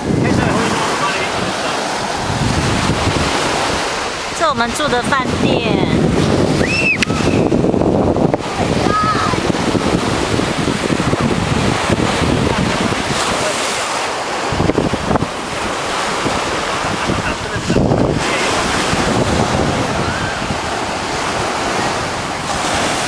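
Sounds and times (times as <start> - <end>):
ocean waves breaking on beach: 0.0 - 23.0
wind buffeting microphone: 0.0 - 23.0.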